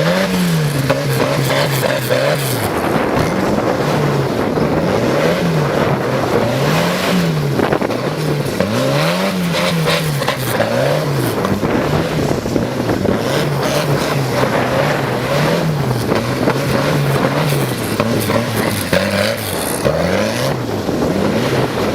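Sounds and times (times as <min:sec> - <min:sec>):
rough noisy background: 0:00.0 - 0:21.9
vehicle engine revving: 0:00.0 - 0:21.9.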